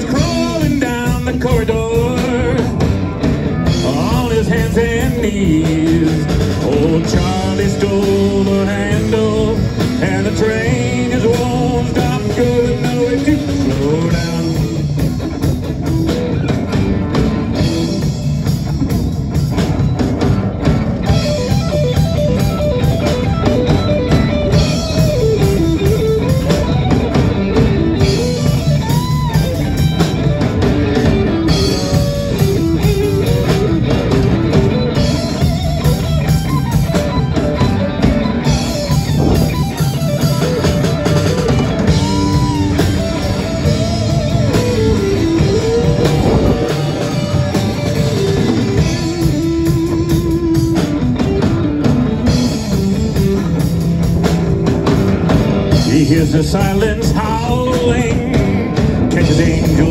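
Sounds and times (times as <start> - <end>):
bass: 0.0 - 59.9
drum kit: 0.0 - 59.9
lead guitar melody: 0.0 - 59.9
strummed guitars: 0.0 - 59.9.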